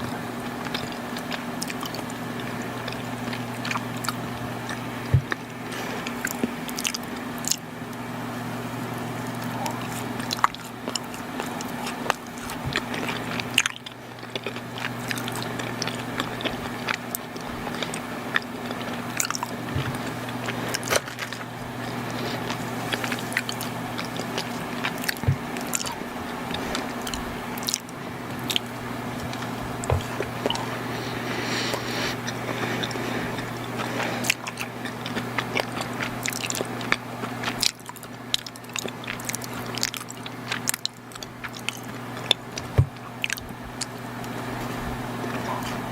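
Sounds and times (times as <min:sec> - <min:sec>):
chewing sweets: 0:00.0 - 0:45.9.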